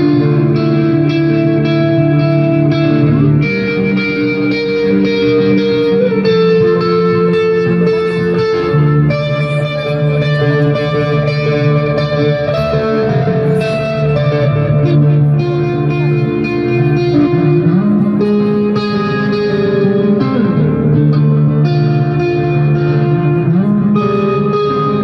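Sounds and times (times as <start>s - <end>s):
electric guitar with heavy reverb: 0.0s - 25.0s.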